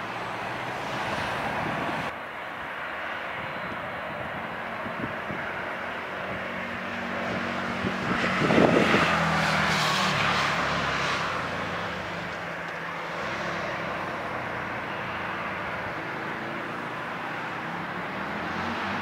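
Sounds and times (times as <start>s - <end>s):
jet engines rushing with whine: 0.0s - 19.0s.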